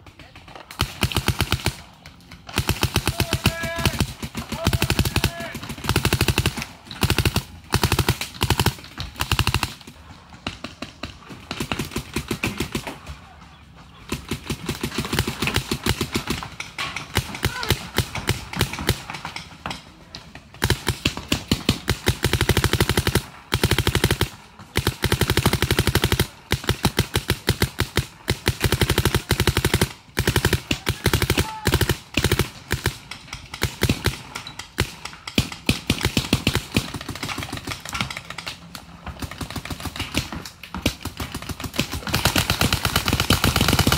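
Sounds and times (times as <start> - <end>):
paintball markers firing rapidly: 0.0 - 13.0, 14.1 - 19.4, 20.4 - 43.9.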